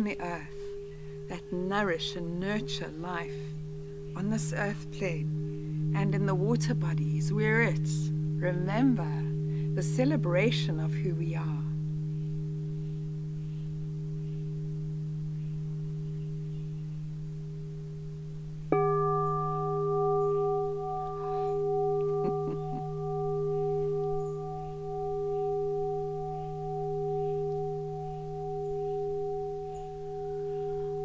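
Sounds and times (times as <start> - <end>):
crystal singing bowl humming: 0.0 - 31.0.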